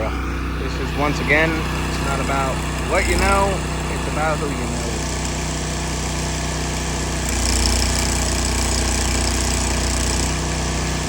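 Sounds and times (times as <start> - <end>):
steady engine hum: 0.0 - 11.0.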